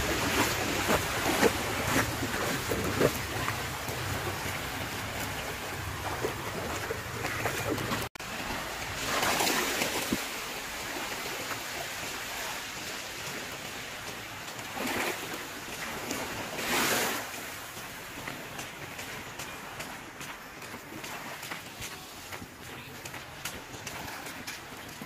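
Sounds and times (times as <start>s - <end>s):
small waves washing onto beach: 0.0s - 25.0s.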